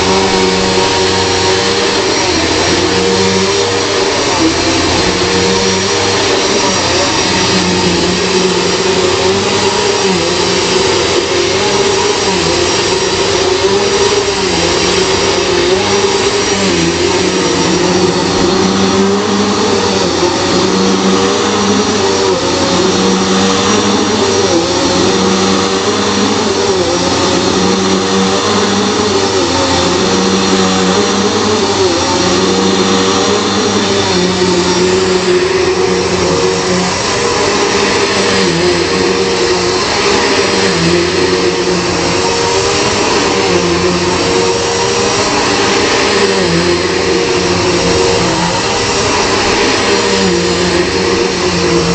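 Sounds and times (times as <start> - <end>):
vacuum cleaner running: 0.0 - 51.9.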